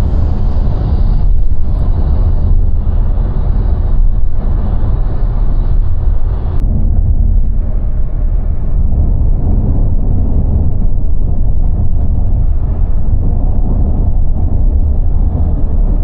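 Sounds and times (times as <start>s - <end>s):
loud low rumbling noise: 0.0s - 16.0s.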